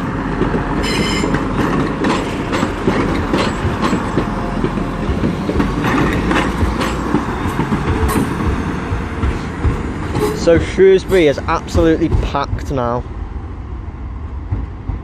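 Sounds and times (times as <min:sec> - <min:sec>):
train wheels clacking on rails: 0:00.0 - 0:13.0, 0:14.3 - 0:15.0
diesel train engine rumbling: 0:00.0 - 0:15.0.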